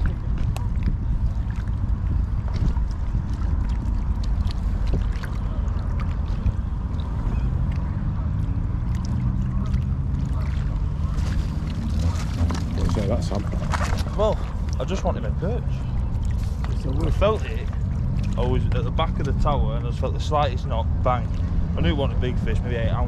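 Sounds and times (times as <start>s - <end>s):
small waves lapping on rocks: 0.0s - 23.0s
wind rumbling on microphone: 0.0s - 23.0s.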